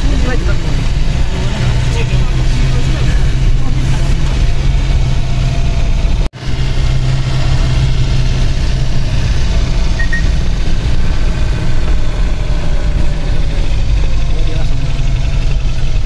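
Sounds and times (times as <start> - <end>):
bus engine humming: 0.0 - 16.0
road noise: 0.0 - 16.0.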